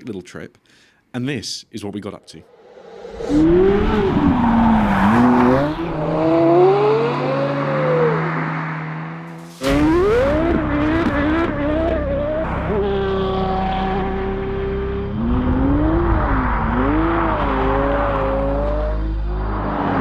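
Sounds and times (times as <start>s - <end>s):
sports car engine revving: 3.1s - 20.0s.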